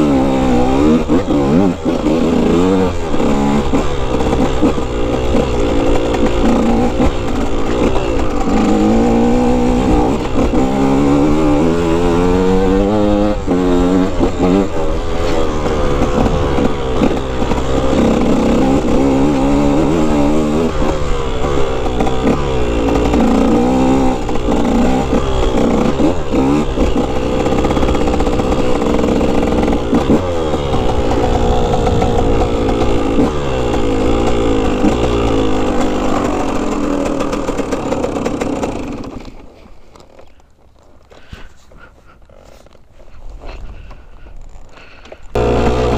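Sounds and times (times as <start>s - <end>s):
dirt bike engine revving: 0.0s - 39.4s, 44.7s - 45.9s.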